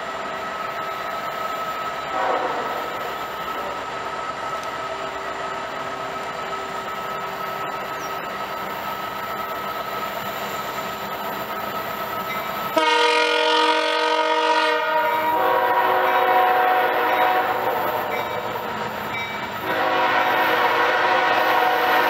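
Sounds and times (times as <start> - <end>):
diesel locomotives rumbling: 0.0 - 22.0.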